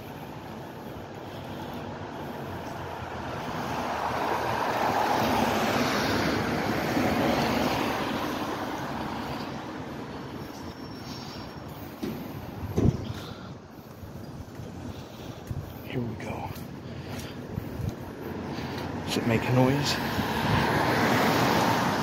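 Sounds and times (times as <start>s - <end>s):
car tyres on wet street: 0.0s - 22.0s.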